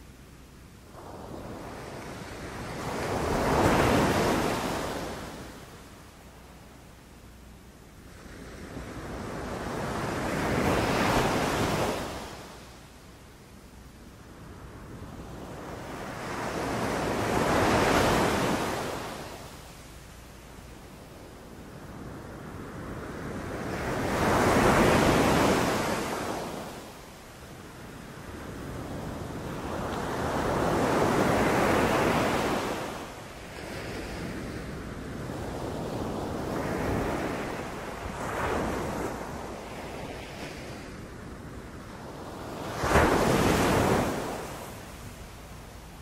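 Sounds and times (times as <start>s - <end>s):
sea waves breaking on beach: 1.0s - 6.0s, 8.3s - 12.8s, 14.5s - 20.7s, 21.5s - 46.0s.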